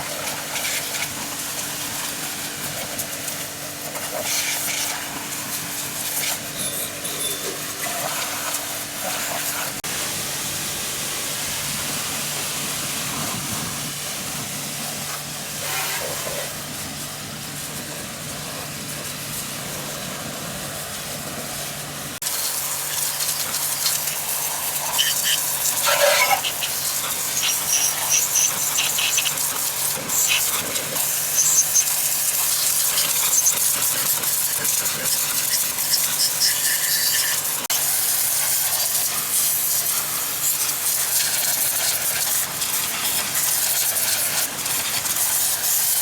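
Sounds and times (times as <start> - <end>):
loud continuous hiss: 0.0 - 46.0.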